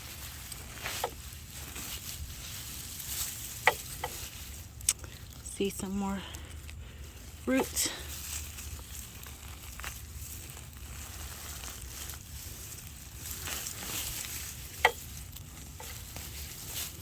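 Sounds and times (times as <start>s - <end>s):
straw and soil rustling: 0.0s - 17.0s.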